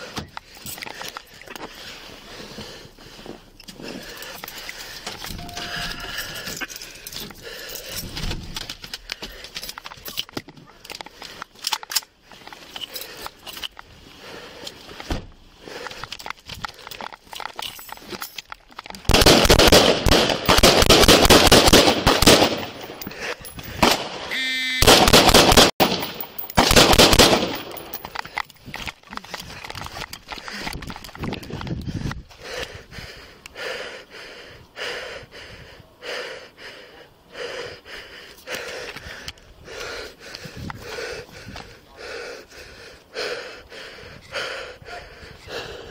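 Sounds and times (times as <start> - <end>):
man breathing heavily: 0.0 - 19.1, 20.2 - 23.9, 26.2 - 45.9.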